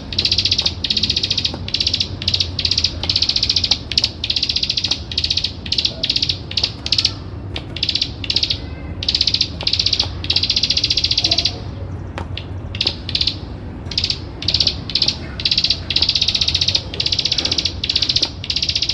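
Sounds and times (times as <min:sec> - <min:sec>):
bird clicking trill: 0:00.0 - 0:18.9
steady low hum: 0:00.0 - 0:18.9.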